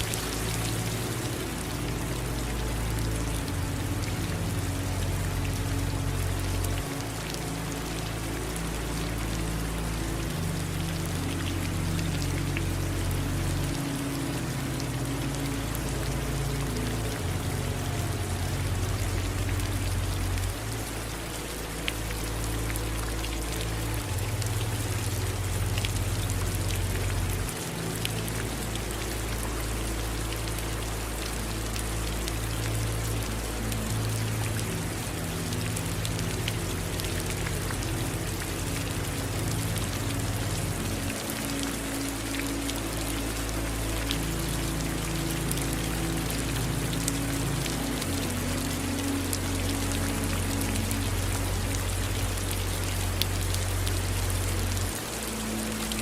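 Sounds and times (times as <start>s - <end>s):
rain falling: 0.0s - 56.0s
running water: 0.0s - 56.0s.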